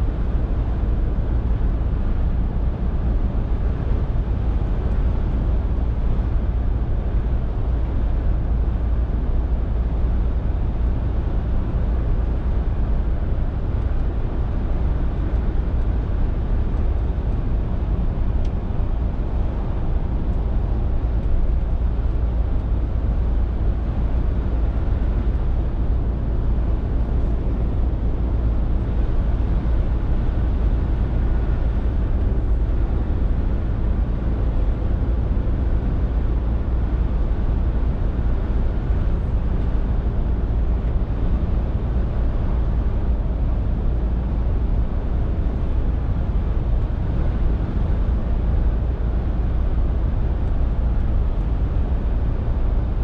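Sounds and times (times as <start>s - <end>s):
road noise: 0.0s - 52.9s
diesel lorry engine drone: 0.0s - 53.0s.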